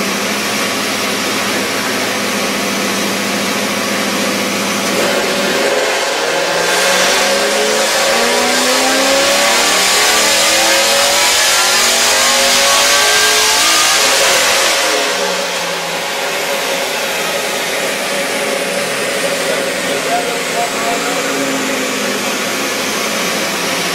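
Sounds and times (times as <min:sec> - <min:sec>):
car engine revving at full throttle: 0:00.0 - 0:23.9.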